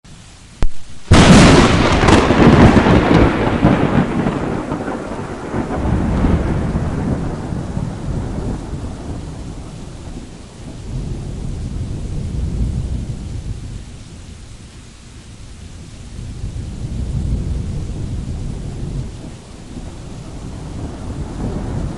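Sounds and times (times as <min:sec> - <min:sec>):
thunderclap and rolling rumble: 0:00.6 - 0:21.9.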